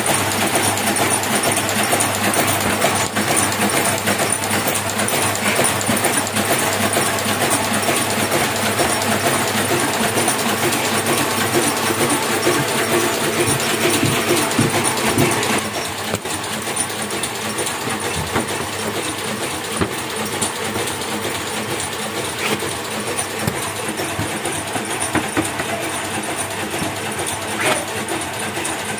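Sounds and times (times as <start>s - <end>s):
printing press clattering: 0.0s - 28.9s.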